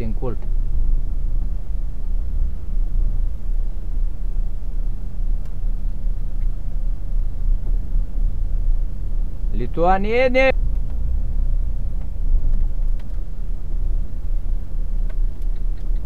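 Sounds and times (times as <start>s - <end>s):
constant low hum: 0.0s - 16.0s
truck engine and road rumble: 0.0s - 16.0s.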